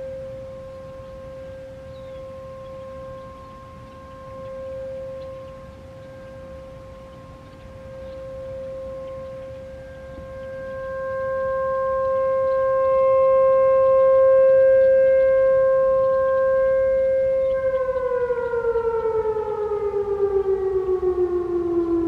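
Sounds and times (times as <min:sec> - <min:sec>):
rotating warning siren: 0:00.0 - 0:22.0.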